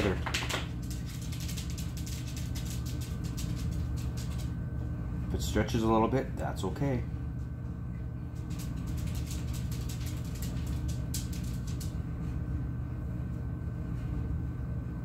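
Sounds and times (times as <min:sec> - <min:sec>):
appliance hum: 0:00.0 - 0:15.0.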